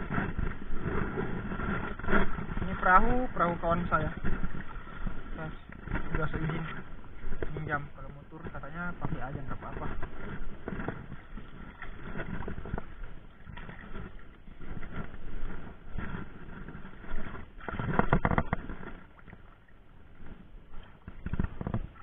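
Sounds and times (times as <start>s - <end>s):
water splashing against canoe: 0.0s - 22.0s.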